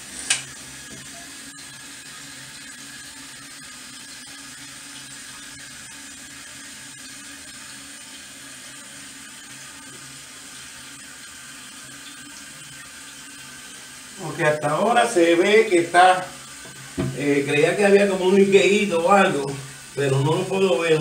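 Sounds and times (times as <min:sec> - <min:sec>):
toilet tank refilling with water: 0:00.0 - 0:21.0.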